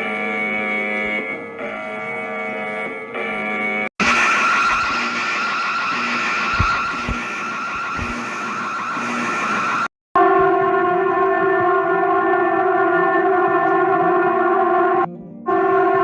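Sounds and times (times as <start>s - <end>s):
harsh screeching alarm: 0.0s - 16.0s.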